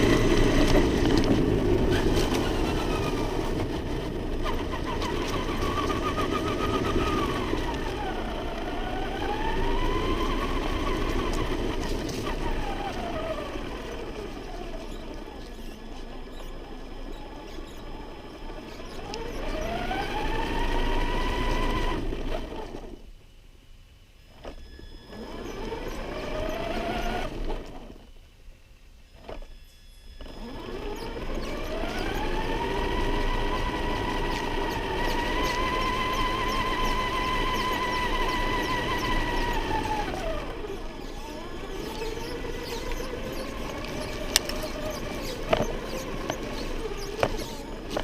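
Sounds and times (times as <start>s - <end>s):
toy truck motor whining: 0.0s - 23.1s, 24.2s - 48.0s
tyre and ground noise: 0.0s - 23.3s, 29.1s - 48.0s.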